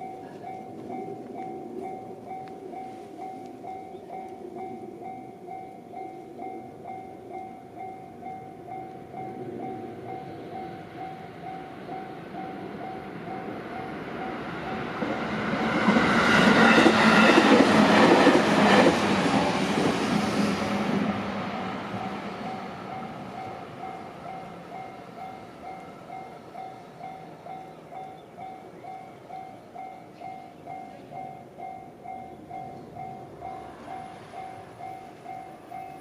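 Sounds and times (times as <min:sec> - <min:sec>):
level-crossing alarm ringing: 0:00.0 - 0:19.0, 0:21.9 - 0:36.0
train wheel and rail noise: 0:00.0 - 0:36.0.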